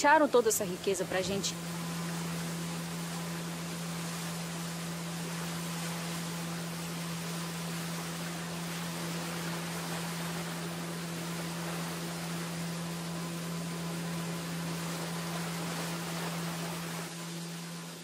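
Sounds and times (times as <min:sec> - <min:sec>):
motorboat engine droning: 0:00.0 - 0:18.0
wind and rushing water: 0:00.0 - 0:18.0.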